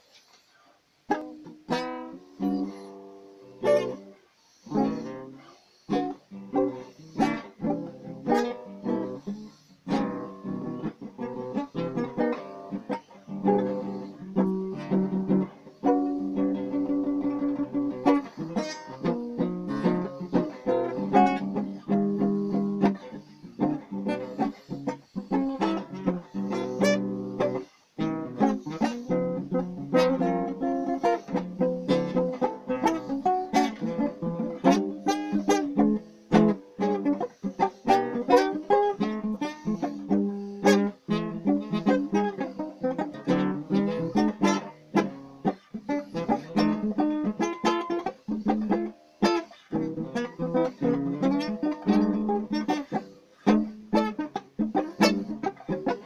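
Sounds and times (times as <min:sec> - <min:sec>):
acoustic guitar playing: 0:01.1 - 0:56.0.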